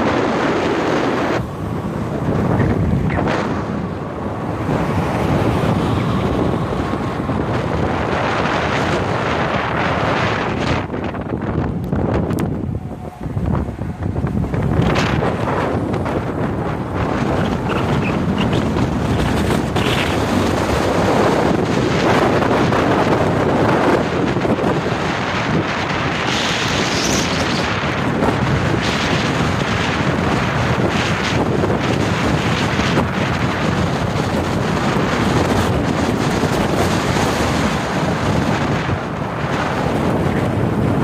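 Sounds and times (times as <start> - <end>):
car road noise: 0.0 - 41.0
wind rushing over microphone: 0.0 - 41.0.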